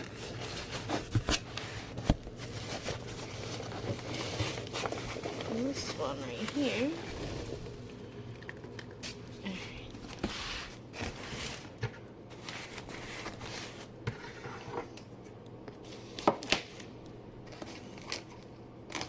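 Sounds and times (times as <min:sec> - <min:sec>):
package rustling and crinkling: 0:00.0 - 0:14.0, 0:15.8 - 0:19.0.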